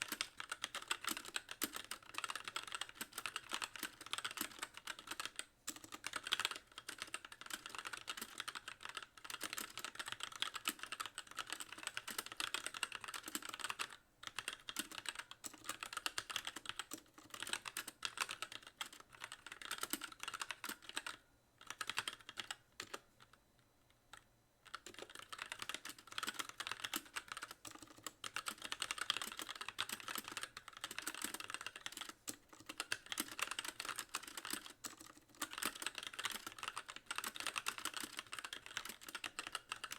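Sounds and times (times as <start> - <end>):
fast mechanical keyboard typing: 0.0 - 23.3, 24.1 - 39.9.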